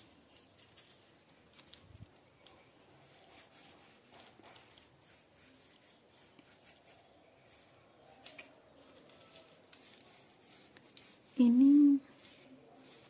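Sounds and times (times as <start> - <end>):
soft rustles of leaves: 0.0 - 13.0.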